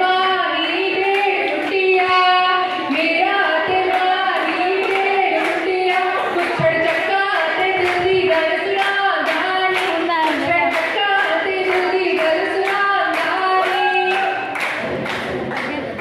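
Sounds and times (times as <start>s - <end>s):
women singing together: 0.0s - 14.5s
hand clapping: 0.6s - 2.2s, 2.9s - 16.0s.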